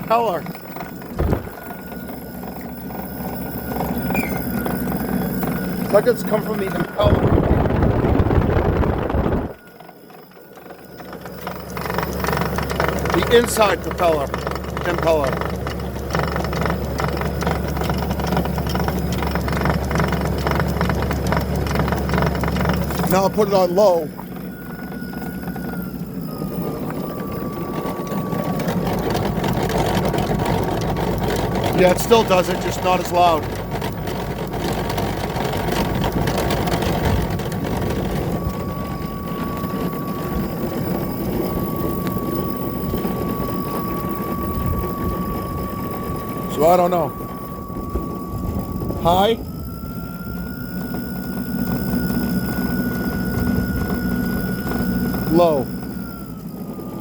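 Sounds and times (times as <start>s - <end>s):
steady high-pitched tone: 0.0s - 15.6s, 22.8s - 57.0s
snowblower motor hum: 0.0s - 57.0s.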